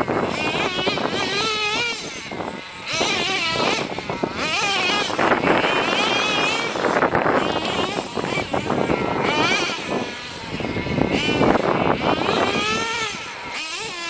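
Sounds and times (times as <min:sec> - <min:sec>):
small nitro engine buzzing: 0:00.0 - 0:14.0.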